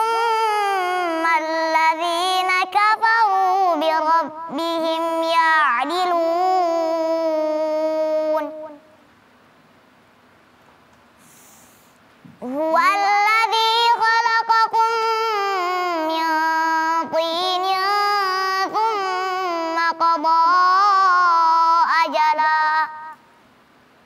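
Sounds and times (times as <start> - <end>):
girl reciting melodically: 0.0 - 9.1, 12.4 - 23.3.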